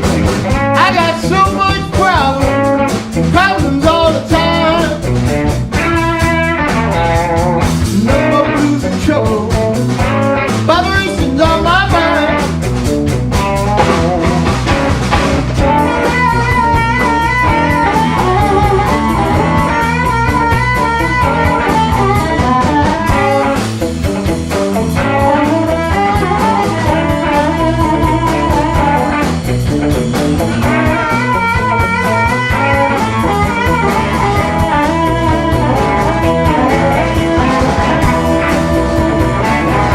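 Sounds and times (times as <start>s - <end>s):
blues guitar: 0.0s - 39.9s
drum kit: 0.0s - 39.9s.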